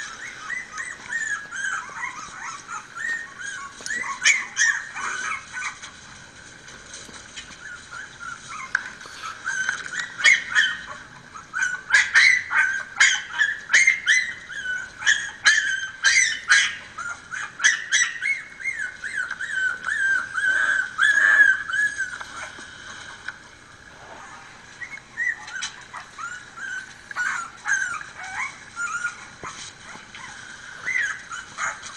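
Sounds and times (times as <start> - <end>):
puppies whining: 0.0 - 31.9
puppies yipping: 0.0 - 31.9.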